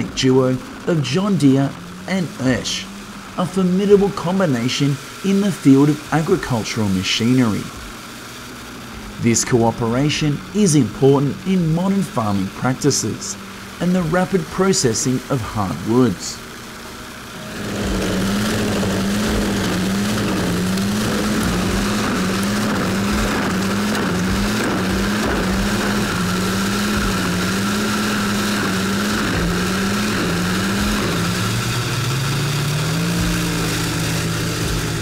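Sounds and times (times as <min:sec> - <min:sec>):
wood chipper with tractor engine: 0:00.0 - 0:35.0.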